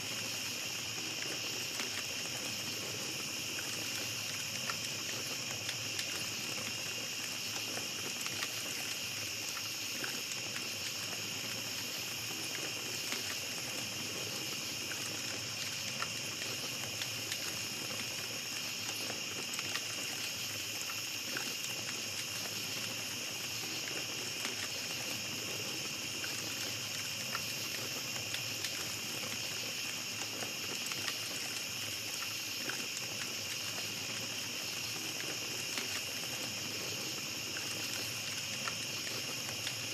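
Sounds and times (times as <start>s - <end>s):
campfire crackling and popping: 0.0s - 39.9s
chorus of night insects: 0.0s - 39.9s.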